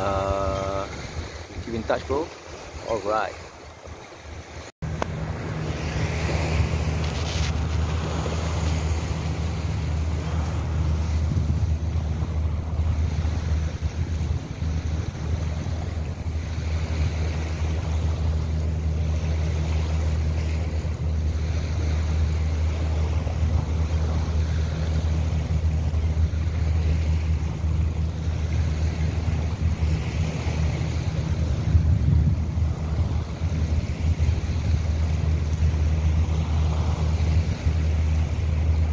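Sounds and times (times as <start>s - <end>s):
small waves lapping on sand: 0.0s - 38.9s
wind buffeting microphone: 0.0s - 38.9s.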